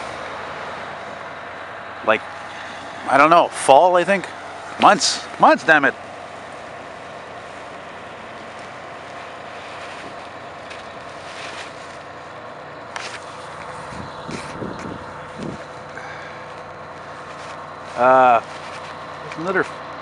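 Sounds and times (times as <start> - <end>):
diesel fire engine idling: 0.0 - 20.0.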